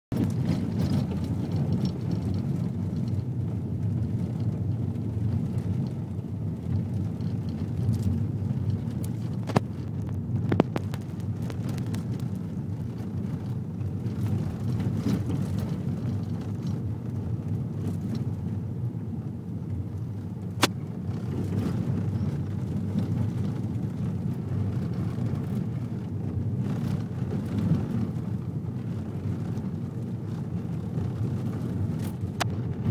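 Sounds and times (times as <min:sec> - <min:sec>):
vehicle rumbling on dirt road: 0:00.1 - 0:32.9.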